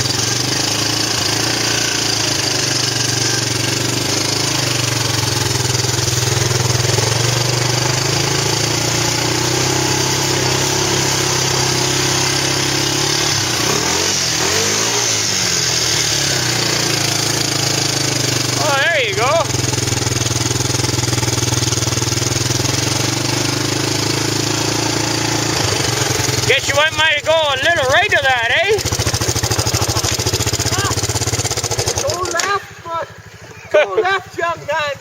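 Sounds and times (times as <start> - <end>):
quad engine running: 0.0 - 35.0.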